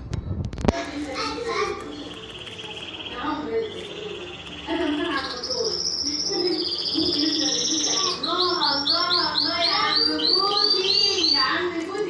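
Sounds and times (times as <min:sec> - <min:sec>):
songbird singing: 0:00.6 - 0:12.0.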